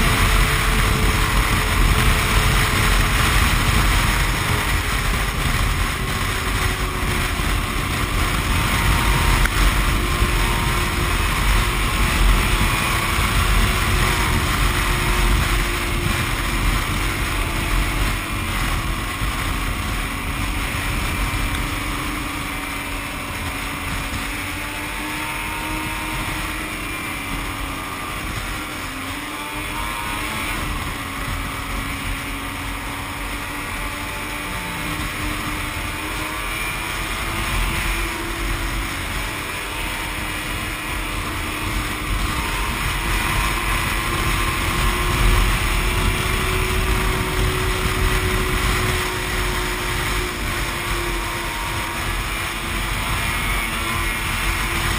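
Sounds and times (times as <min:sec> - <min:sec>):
snowmobile engine running: 0:00.0 - 0:54.9
wind on microphone: 0:00.0 - 0:54.9.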